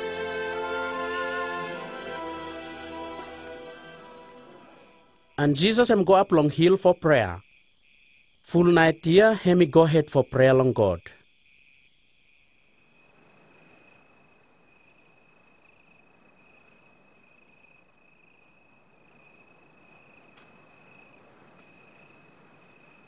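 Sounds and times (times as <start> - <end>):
low hiss: 0.0 - 11.2, 11.8 - 23.0
crickets chirring: 0.0 - 23.0.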